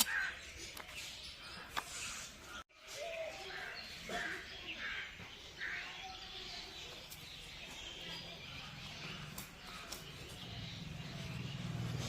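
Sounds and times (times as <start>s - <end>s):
birds calling: 0.0s - 12.0s
faint outdoor ambience: 0.0s - 12.0s.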